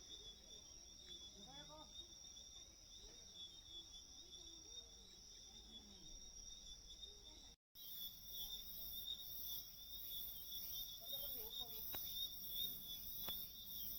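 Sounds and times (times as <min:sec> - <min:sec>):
crickets chirping: 0:00.0 - 0:13.9.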